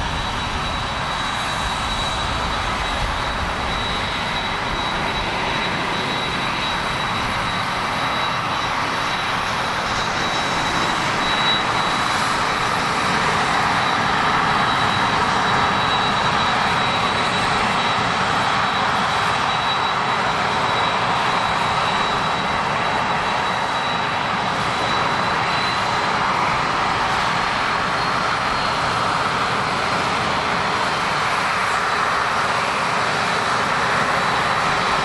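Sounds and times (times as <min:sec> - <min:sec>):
airliner engines rushing with whine: 0:00.0 - 0:35.0.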